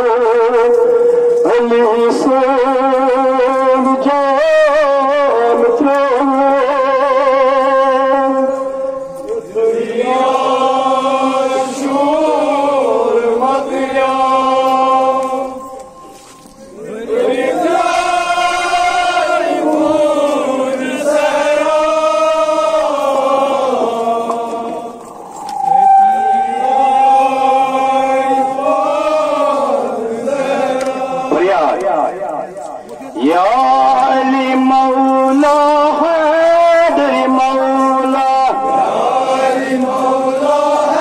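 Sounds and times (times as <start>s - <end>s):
person chanting: 1.4s - 41.0s.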